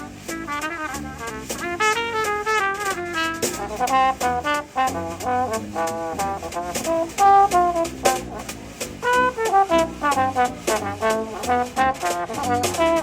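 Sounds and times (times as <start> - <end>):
brass band playing: 0.0 - 13.0
steady drum beat: 0.0 - 13.0
trumpets and trombones: 0.0 - 13.0.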